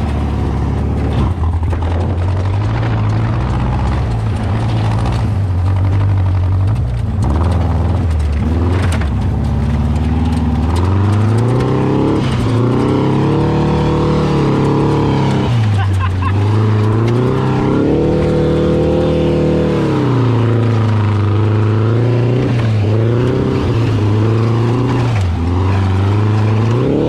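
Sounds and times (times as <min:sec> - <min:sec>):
dune buggy engine revving: 0:00.0 - 0:27.0.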